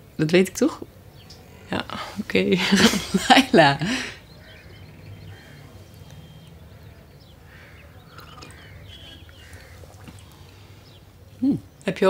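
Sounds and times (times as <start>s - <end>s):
low steady hum: 0.0s - 12.0s
faint bird chirps: 0.8s - 2.2s, 2.9s - 12.0s.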